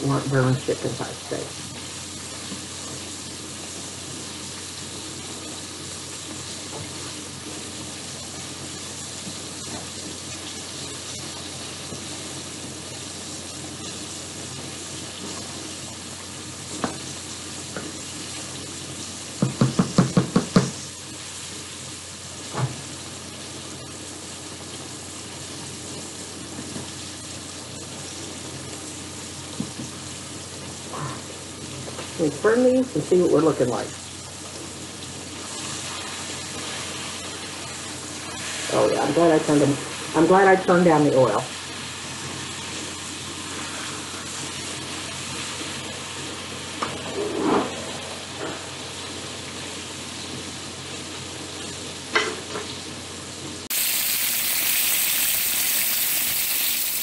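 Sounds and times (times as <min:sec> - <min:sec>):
steak sizzling in hot oil: 0:00.1 - 0:57.0.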